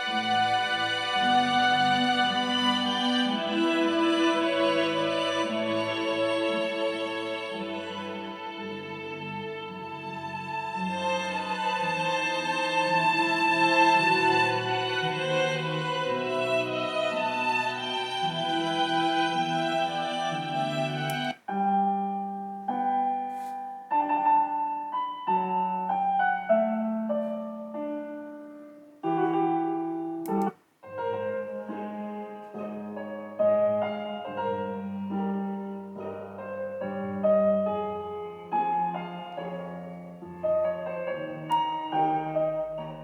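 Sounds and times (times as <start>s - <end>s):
piano music from small player: 0.0s - 43.0s.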